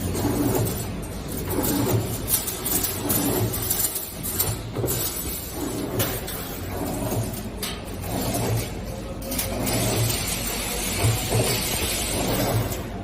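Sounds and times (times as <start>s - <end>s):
metallic clicks and clanks: 0.0s - 13.0s.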